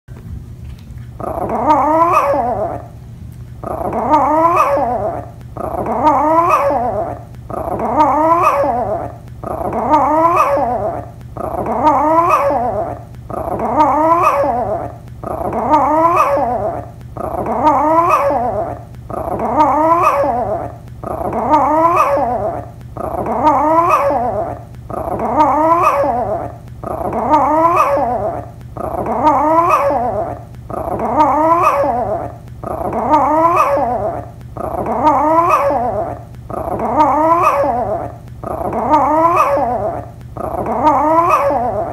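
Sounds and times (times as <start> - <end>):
dog howling barks: 1.2 - 2.8, 3.6 - 41.9.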